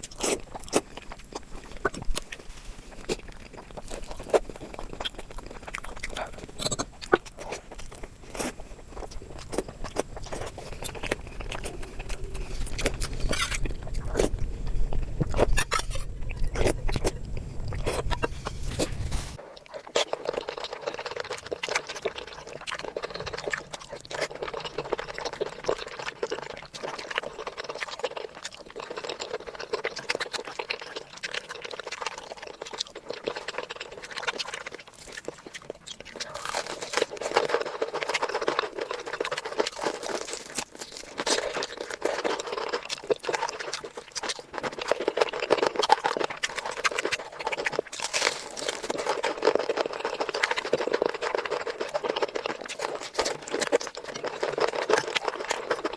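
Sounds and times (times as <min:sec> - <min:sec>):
chewing and smacking: 0:00.0 - 0:55.9.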